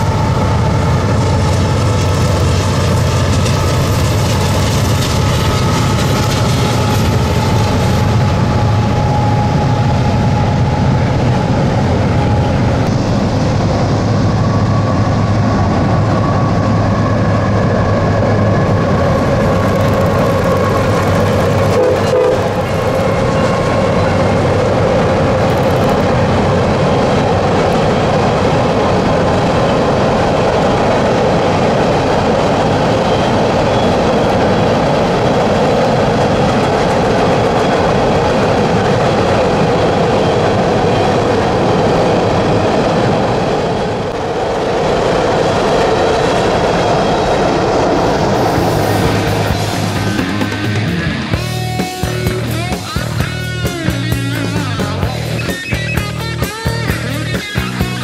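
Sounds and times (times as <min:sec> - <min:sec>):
freight train rumbling over bridge: 0:00.0 - 0:58.0.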